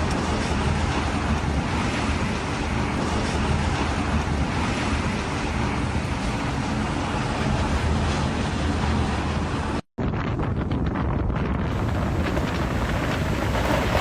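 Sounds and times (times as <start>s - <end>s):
strong wind rushing: 0.0s - 14.0s
wind buffeting microphone: 0.0s - 14.0s.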